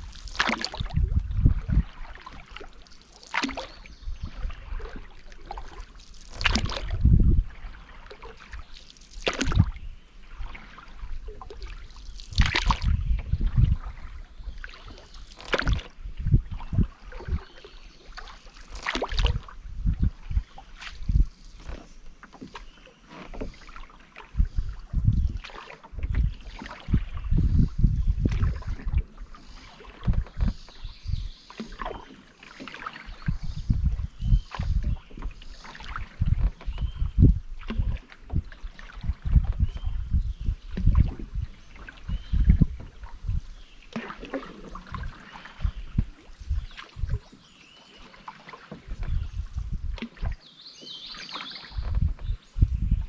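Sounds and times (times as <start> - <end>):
paddle splashing in water: 0.0 - 53.0.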